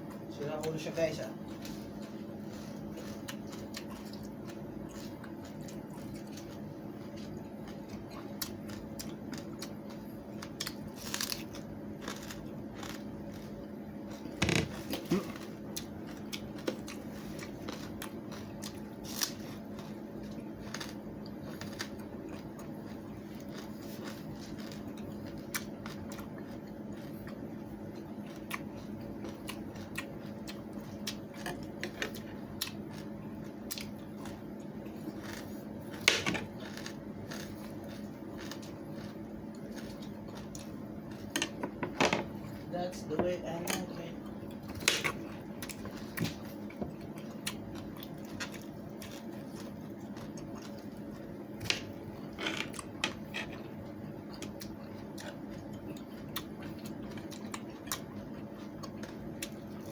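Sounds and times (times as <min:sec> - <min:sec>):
watermelon rind crunching: 0:00.6 - 0:41.6, 0:43.5 - 0:53.7.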